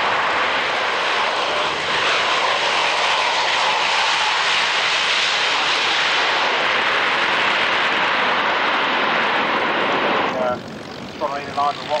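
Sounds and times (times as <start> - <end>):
propeller aircraft engines running: 0.0 - 12.0.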